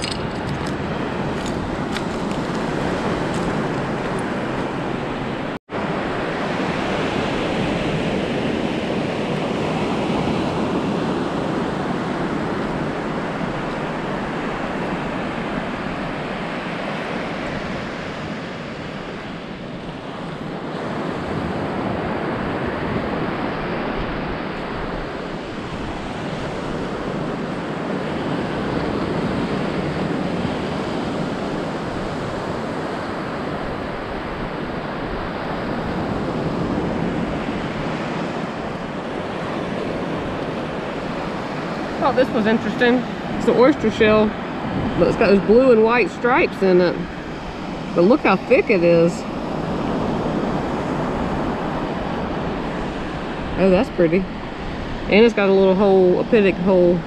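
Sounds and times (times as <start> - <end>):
ocean surf on a sandy beach: 0.0 - 57.0
wind buffeting the microphone: 0.0 - 57.0.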